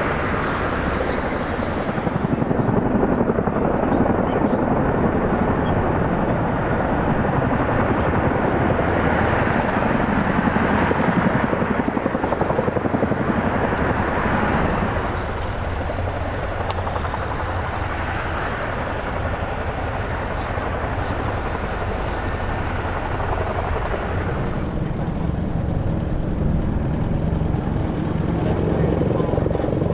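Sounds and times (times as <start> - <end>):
helicopter rotor and turbines: 0.0 - 29.9.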